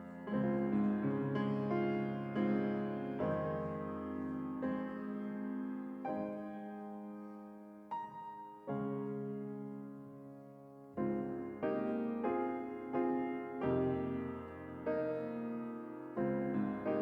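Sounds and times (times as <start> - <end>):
slow quiet piano chords: 0.0 - 17.0.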